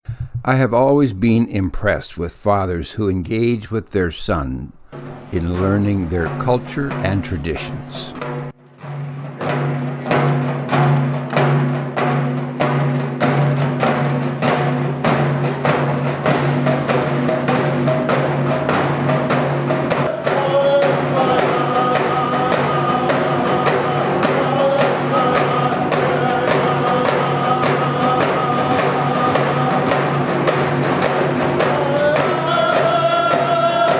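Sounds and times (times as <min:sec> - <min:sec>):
steady drumbeat: 0:00.0 - 0:33.9.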